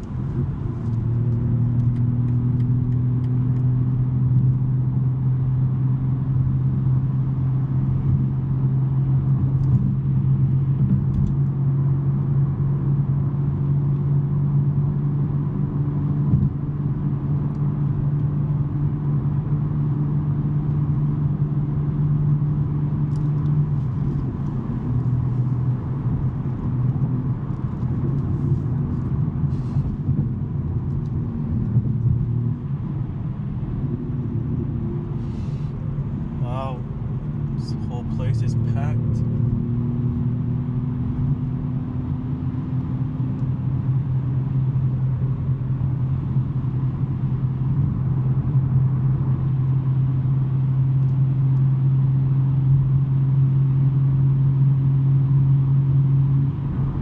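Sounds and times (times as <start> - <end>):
car engine droning: 0.0 - 57.0.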